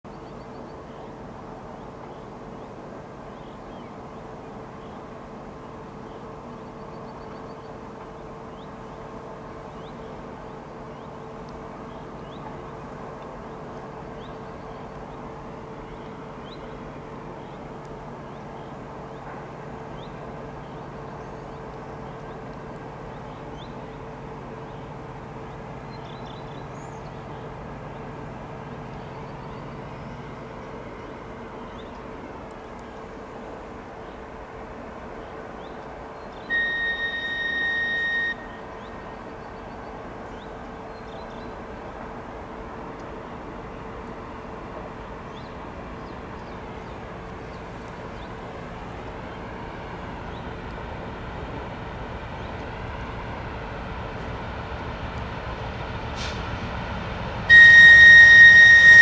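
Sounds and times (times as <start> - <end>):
distant diesel train drone: 0.0 - 59.0
birds chirping: 0.1 - 42.1, 43.0 - 53.3.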